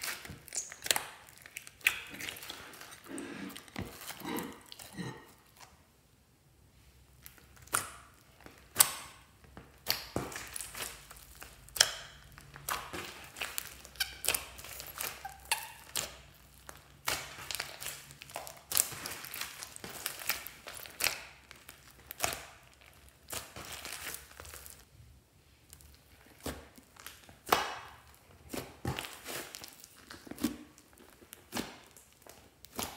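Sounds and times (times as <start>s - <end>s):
slime squelching and popping: 0.0s - 5.8s, 7.1s - 24.9s, 25.6s - 32.9s.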